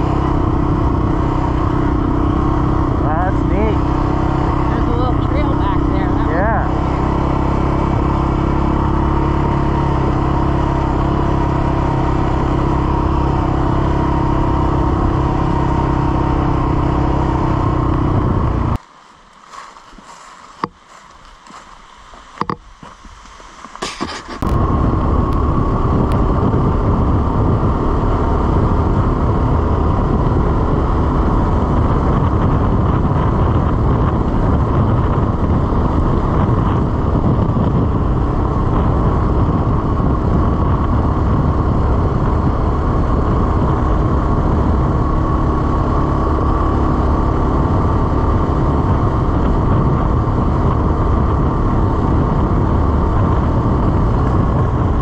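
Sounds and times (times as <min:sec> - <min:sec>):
atv engine rumbling: 0:00.0 - 0:55.0.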